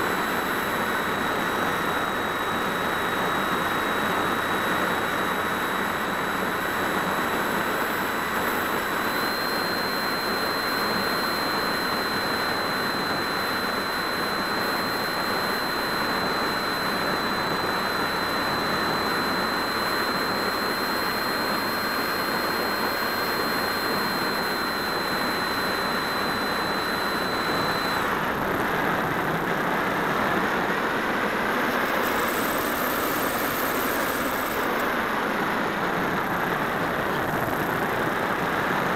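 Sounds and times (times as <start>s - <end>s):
electric motor whine: 0.0s - 38.8s.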